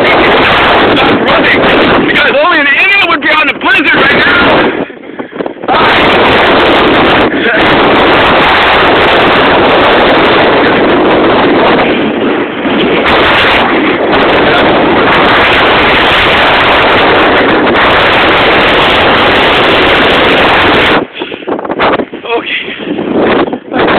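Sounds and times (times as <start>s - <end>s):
wind blowing across microphone: 0.0s - 23.9s.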